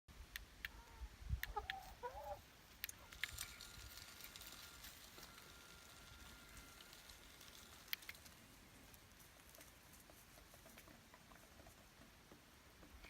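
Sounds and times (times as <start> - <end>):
chicken calls: 0.6 - 11.8
chickens clucking: 0.6 - 12.4.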